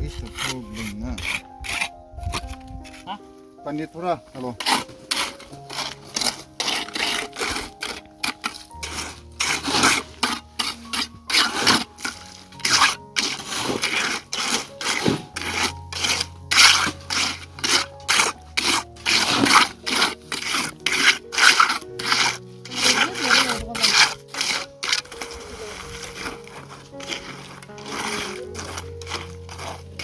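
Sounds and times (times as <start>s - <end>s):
hand tool scraping rough surface: 0.0s - 30.0s.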